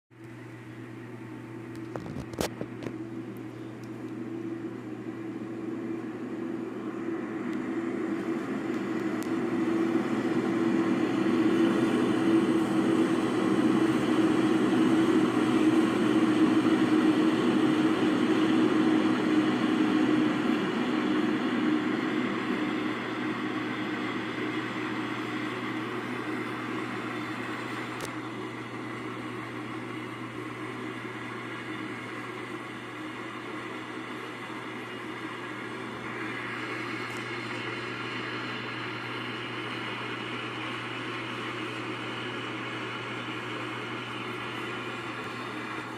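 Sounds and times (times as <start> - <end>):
low steady hum: 0.1 - 45.9.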